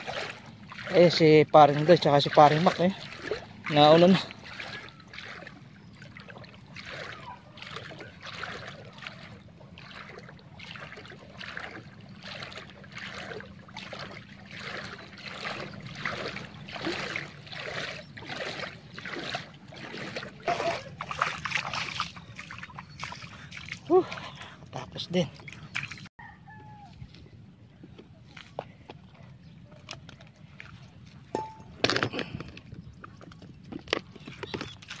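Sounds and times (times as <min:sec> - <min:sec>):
footsteps splashing through water: 0:00.0 - 0:26.1, 0:28.3 - 0:31.9, 0:32.8 - 0:35.0.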